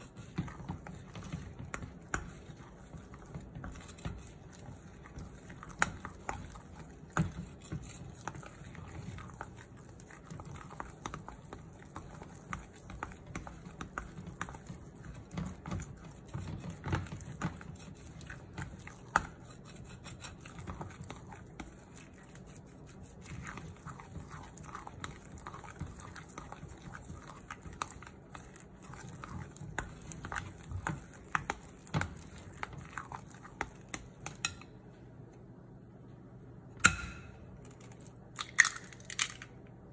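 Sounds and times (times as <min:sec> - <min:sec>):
spatula stirring batter: 0:00.0 - 0:35.2.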